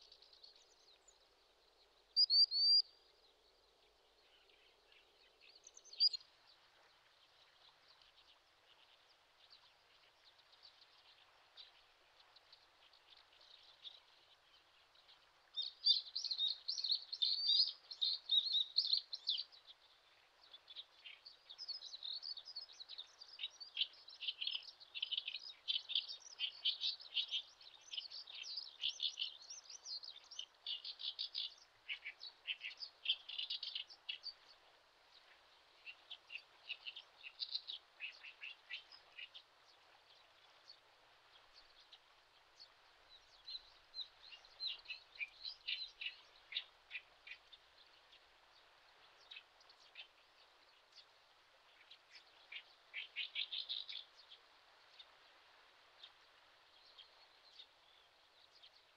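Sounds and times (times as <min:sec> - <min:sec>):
faint steady hiss: 0:00.0 - 0:58.9.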